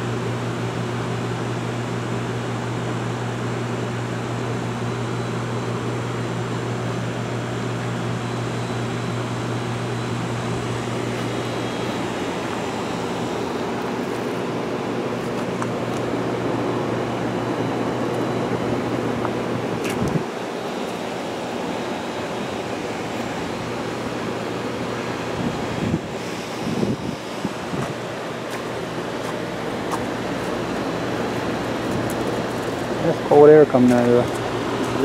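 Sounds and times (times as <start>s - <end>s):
fan rush: 0.0s - 35.0s
low electric hum: 0.0s - 35.0s.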